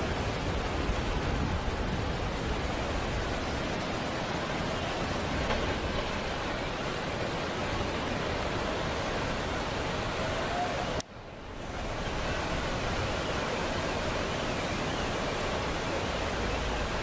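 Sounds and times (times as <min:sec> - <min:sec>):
rushing floodwater: 0:00.0 - 0:17.0.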